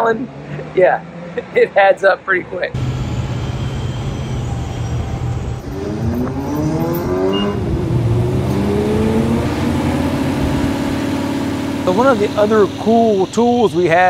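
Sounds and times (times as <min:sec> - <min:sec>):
engine revving: 0:02.7 - 0:14.0.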